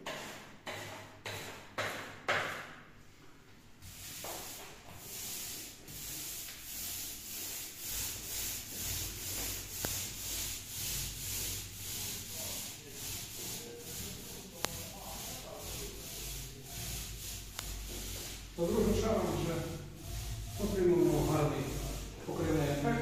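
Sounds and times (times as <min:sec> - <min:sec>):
paint roller swishing on wall: 0:00.0 - 0:23.0.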